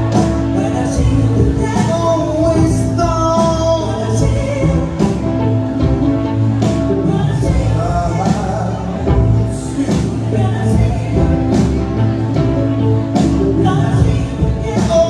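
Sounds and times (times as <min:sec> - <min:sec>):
bending melody line: 0:00.0 - 0:15.0
live band music: 0:00.0 - 0:15.0
steady bass: 0:00.0 - 0:15.0.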